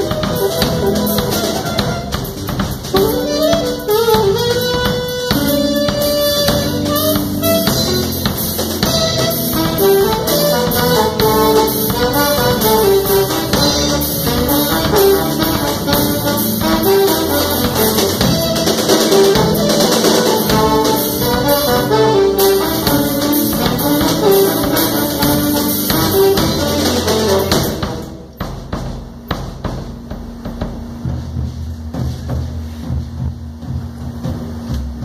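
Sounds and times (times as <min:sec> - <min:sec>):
trombone playing melody: 0:00.0 - 0:28.4
band playing: 0:00.0 - 0:35.0
drum kit: 0:00.0 - 0:35.0.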